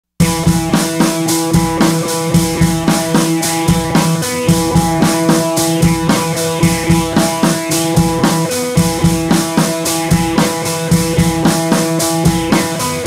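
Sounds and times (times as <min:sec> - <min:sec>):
music with drums and guitar: 0:00.2 - 0:13.0.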